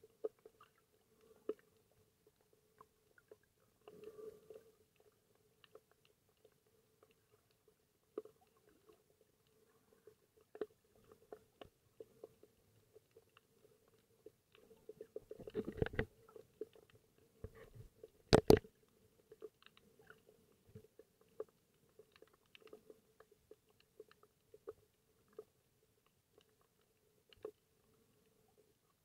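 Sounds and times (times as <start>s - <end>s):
faint steady hum: 0.0s - 29.0s
underwater clicks and crackles: 0.0s - 29.0s.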